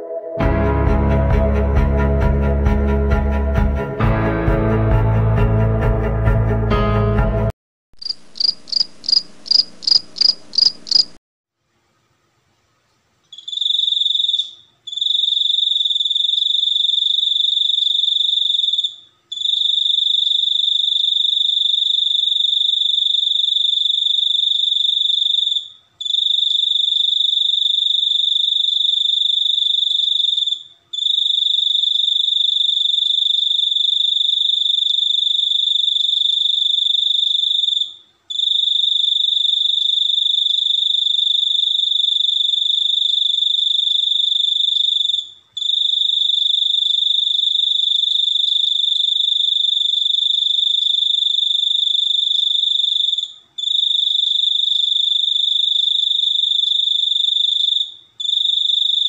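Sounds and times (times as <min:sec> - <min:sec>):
cricket trilling: 0:08.0 - 0:11.2, 0:13.3 - 0:59.0
crickets chirping: 0:08.0 - 0:11.2, 0:13.3 - 0:59.0.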